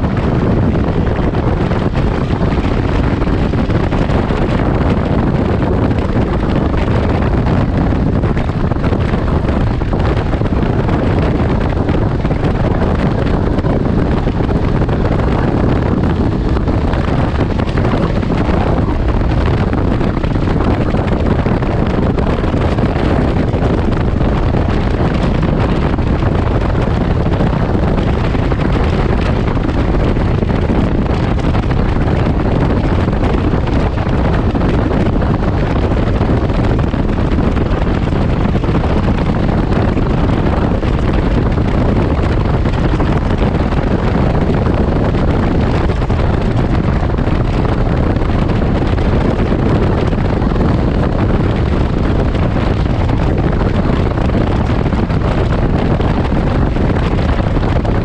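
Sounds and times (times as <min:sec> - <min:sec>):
road noise: 0:00.0 - 0:58.0
vehicle engine running: 0:00.0 - 0:58.0
wind buffeting microphone: 0:00.0 - 0:58.0.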